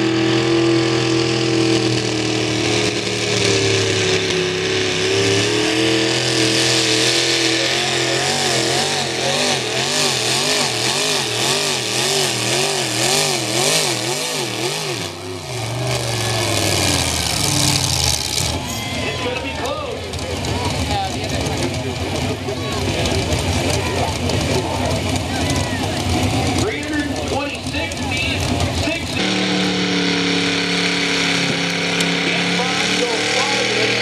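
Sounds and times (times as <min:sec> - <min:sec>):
truck engine revving under load: 0:00.0 - 0:34.0.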